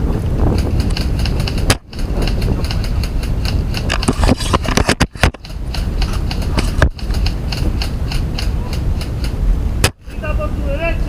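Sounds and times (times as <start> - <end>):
heavy low rumble: 0.0 - 11.0
rapid rhythmic knocking: 0.3 - 9.5.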